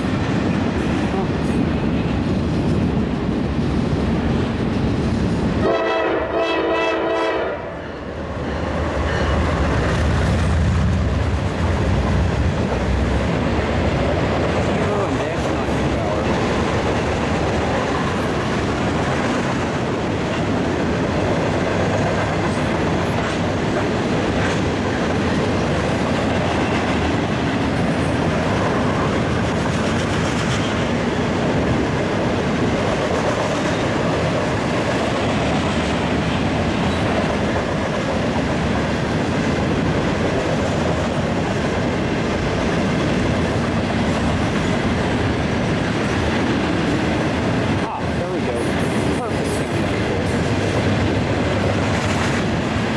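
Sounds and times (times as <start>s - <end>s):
train cars rumbling: 0.0s - 52.9s
steel wheels clattering on rails: 8.7s - 52.9s.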